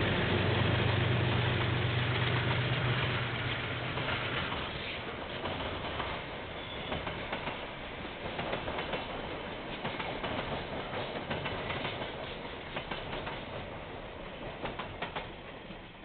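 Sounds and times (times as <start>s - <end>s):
train wagons rumbling: 0.0s - 16.0s.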